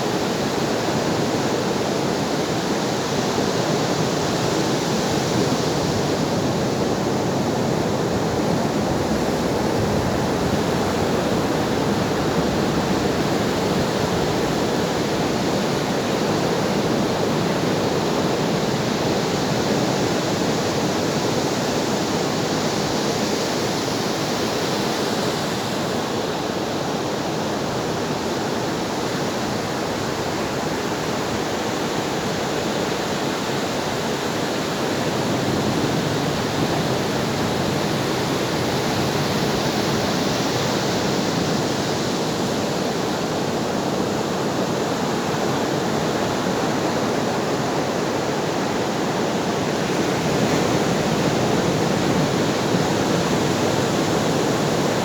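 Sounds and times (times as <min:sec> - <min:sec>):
ocean waves washing on shore: 0:00.0 - 0:55.0.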